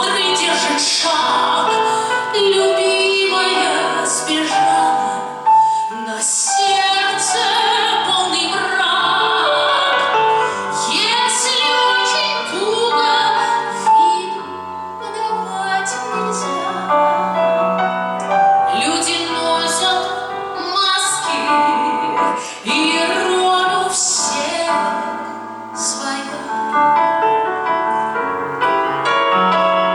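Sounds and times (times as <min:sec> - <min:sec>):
woman singing operatically: 0:00.0 - 0:17.3, 0:18.7 - 0:26.8
piano accompaniment: 0:00.0 - 0:29.9.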